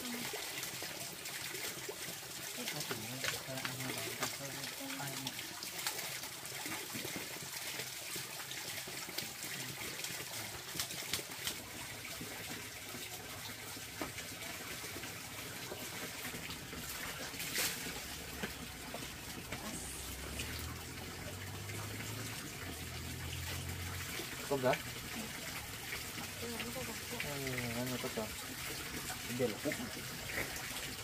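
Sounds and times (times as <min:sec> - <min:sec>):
water trickling and splashing: 0:00.0 - 0:31.0.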